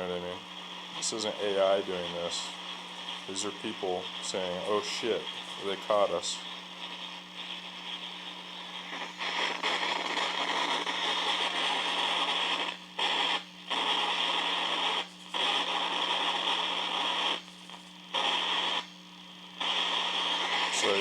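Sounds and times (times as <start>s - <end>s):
radio static hiss: 0.0s - 21.0s
steady low hum: 0.0s - 21.0s.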